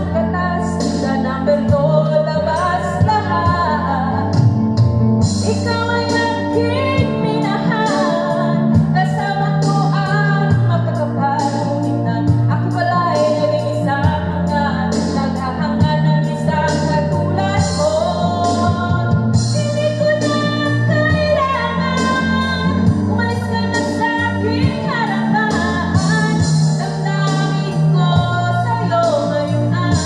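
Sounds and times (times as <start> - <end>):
backing track with bass line: 0.0 - 30.0
woman singing karaoke: 0.0 - 30.0.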